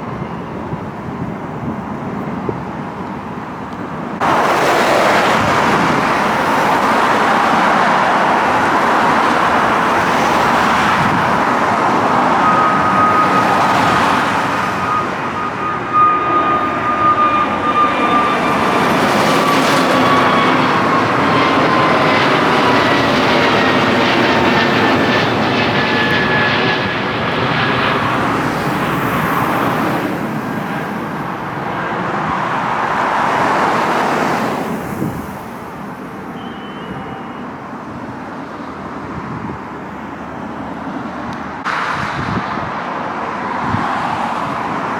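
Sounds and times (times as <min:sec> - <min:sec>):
jet airliner engines at takeoff: 0:00.0 - 0:44.9.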